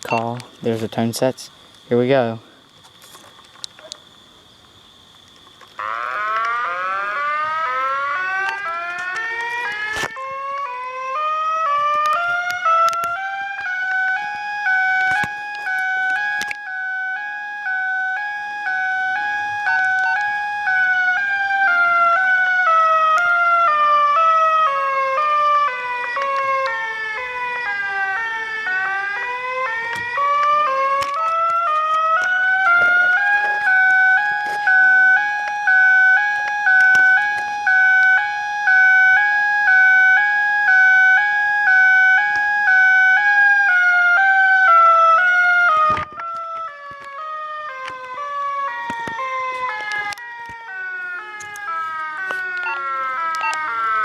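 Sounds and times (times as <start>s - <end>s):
siren sliding in pitch: 5.8s - 54.0s.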